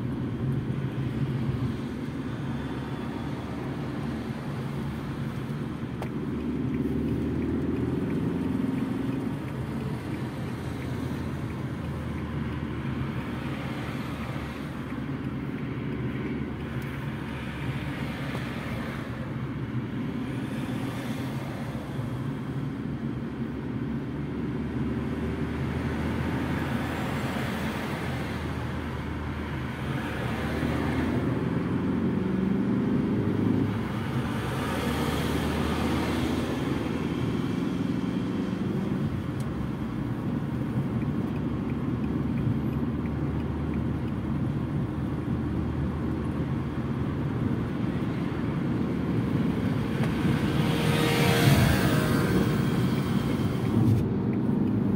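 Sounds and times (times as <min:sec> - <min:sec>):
car engine hum: 0:00.0 - 0:54.9
tyre and road noise: 0:00.0 - 0:54.9.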